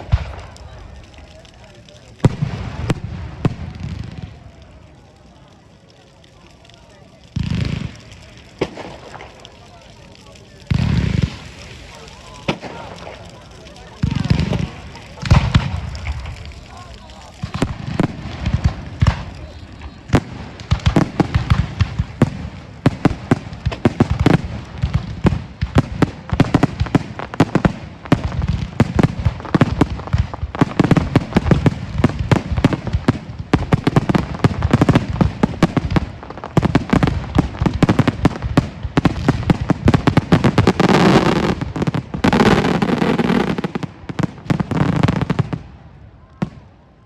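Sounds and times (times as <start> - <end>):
fireworks booms: 0.0 - 5.0, 7.2 - 46.8
fireworks bangs and crackles: 0.0 - 47.0.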